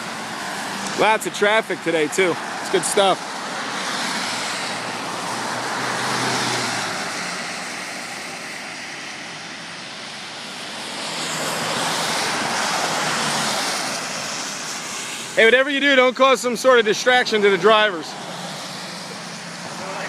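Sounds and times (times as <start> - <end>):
cars passing on road: 0.0 - 20.0.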